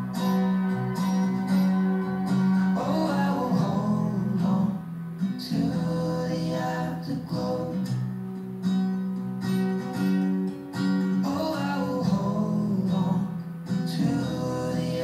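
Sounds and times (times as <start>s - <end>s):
pop song with acoustic guitar: 0.0s - 15.0s.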